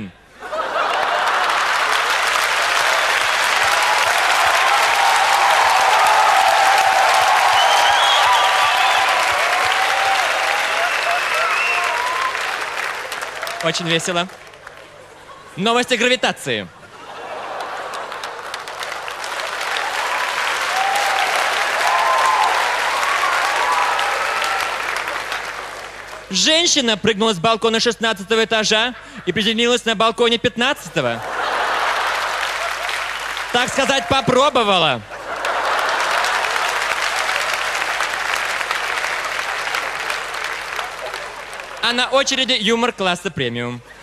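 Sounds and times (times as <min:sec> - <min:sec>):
audience applauding: 0:00.5 - 0:15.4, 0:17.1 - 0:26.5, 0:31.2 - 0:42.5.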